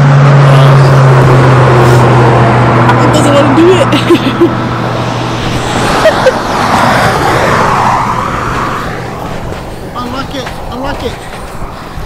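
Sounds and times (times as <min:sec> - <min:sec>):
car passing by: 0:00.0 - 0:12.0.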